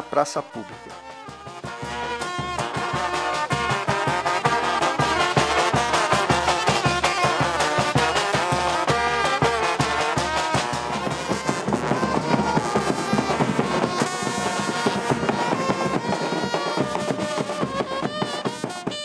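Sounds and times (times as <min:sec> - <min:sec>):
trumpet playing a tune: 0:00.0 - 0:19.0
snare drum: 0:00.1 - 0:19.0
bass drum beating: 0:00.6 - 0:19.0.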